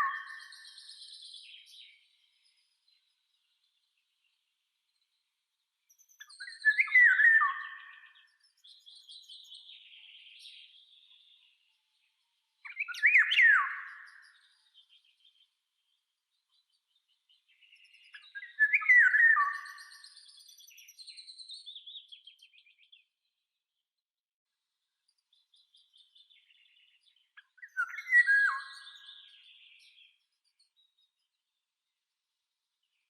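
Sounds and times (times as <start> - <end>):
songbird singing: 0.0 - 23.6, 24.8 - 32.0.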